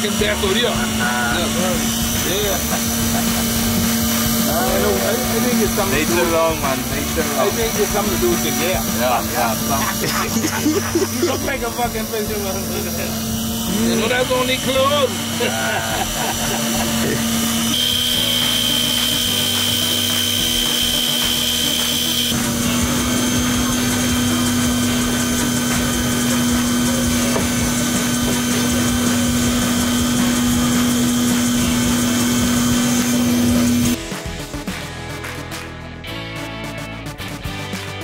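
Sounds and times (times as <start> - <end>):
mechanical motor hum: 0.0 - 34.2.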